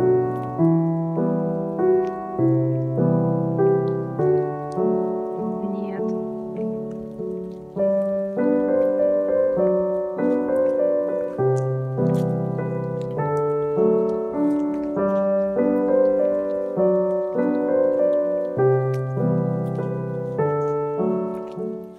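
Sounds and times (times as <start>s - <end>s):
gentle piano music: 0.0s - 21.9s.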